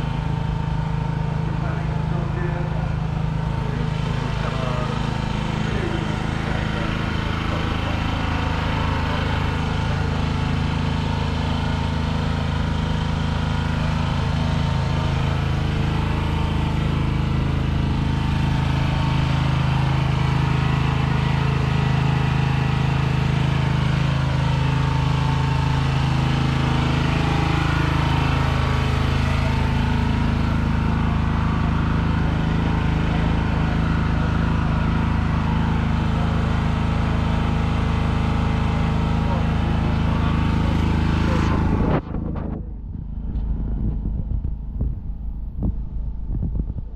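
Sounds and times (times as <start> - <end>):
large engine idling: 0.0 - 46.9.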